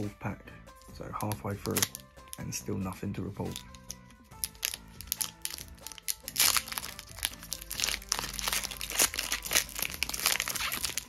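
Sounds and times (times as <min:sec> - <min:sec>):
soft background music: 0:00.0 - 0:11.0
foil wrapper crinkling and tearing: 0:00.8 - 0:02.5, 0:03.4 - 0:11.0.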